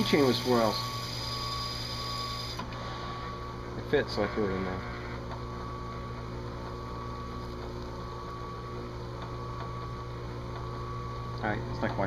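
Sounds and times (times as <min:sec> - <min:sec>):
drill press humming: 0:00.0 - 0:12.0.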